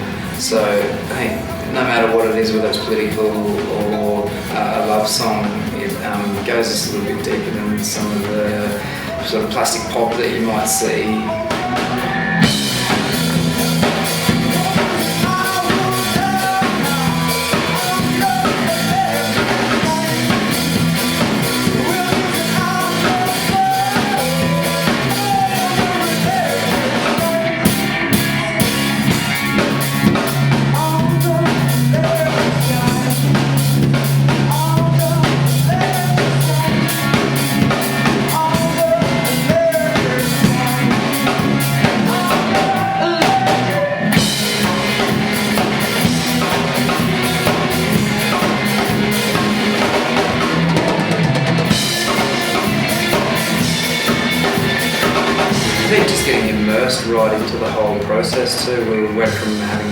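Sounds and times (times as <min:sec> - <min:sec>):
drum kit steady beat: 0:00.0 - 0:59.9
rock band playing: 0:00.0 - 0:59.9
person singing: 0:00.1 - 0:59.9.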